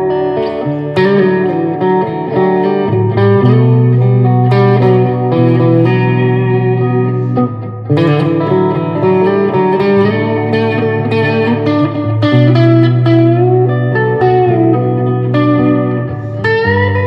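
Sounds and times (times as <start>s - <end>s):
electric guitar playing single notes: 0.0s - 17.0s.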